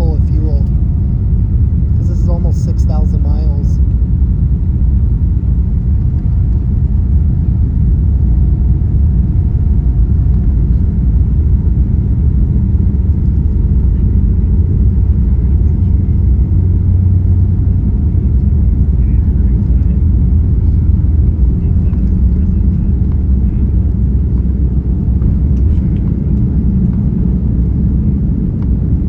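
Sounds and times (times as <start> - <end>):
airplane cabin engine and airflow rumble: 0.0 - 29.0
faint steady hum: 0.0 - 29.0.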